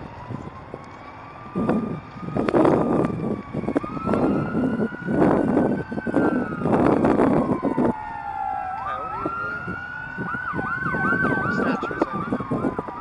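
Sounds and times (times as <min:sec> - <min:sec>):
emergency vehicle siren: 0:00.0 - 0:13.0.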